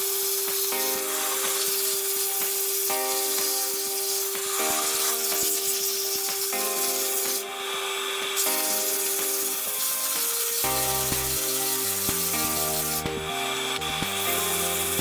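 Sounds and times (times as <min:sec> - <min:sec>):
sandpaper hissing on spinning wood: 0:00.0 - 0:15.0.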